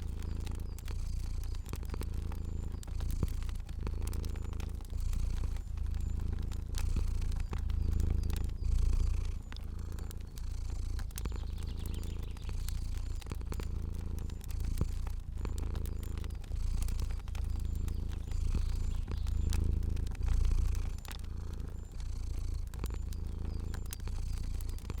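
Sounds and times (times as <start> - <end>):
cat purring: 0.0 - 25.0
fire crackling and popping: 0.0 - 25.0.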